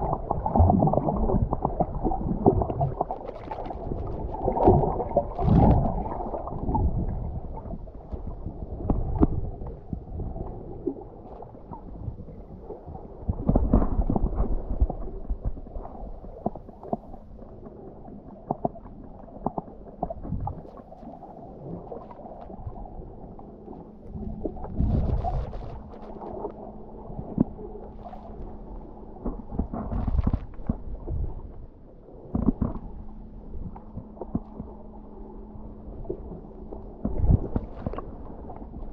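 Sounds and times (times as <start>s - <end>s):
underwater water gurgling and sloshing: 0.0s - 38.9s.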